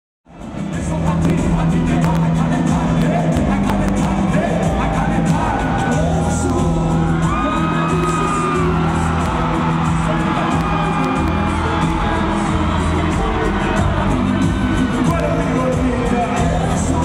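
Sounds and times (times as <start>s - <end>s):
live concert music: 0.3s - 17.0s
crowd whooping: 2.6s - 17.0s.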